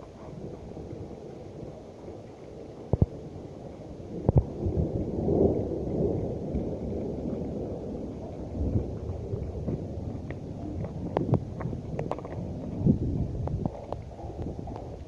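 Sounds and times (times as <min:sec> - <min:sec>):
hailstorm rumbling: 0:00.0 - 0:15.0.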